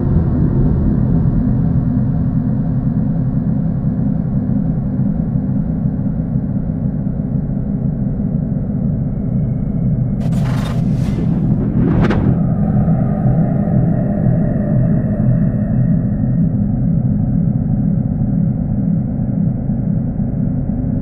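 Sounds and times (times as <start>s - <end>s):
low rumbling ambient drone: 0.0s - 21.0s.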